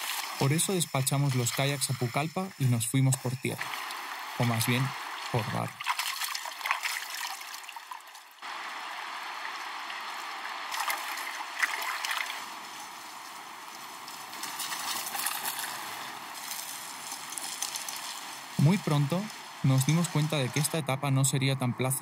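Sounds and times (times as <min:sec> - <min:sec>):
water trickling and splashing: 0:00.0 - 0:20.9.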